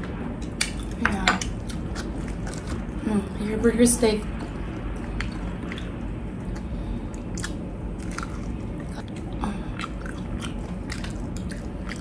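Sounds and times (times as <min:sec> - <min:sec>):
crunching fried chicken: 0:00.6 - 0:03.1, 0:04.4 - 0:12.0.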